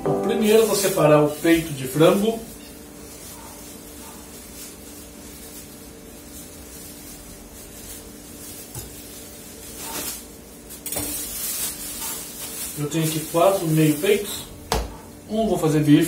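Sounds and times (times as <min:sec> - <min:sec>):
plastic bag crinkling: 0:00.2 - 0:14.6.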